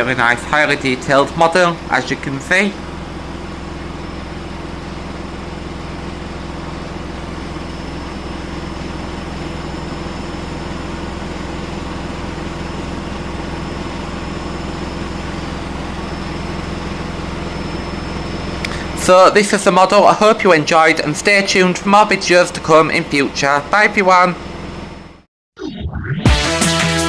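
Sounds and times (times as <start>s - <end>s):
machine hum and hiss: 0.0s - 23.8s.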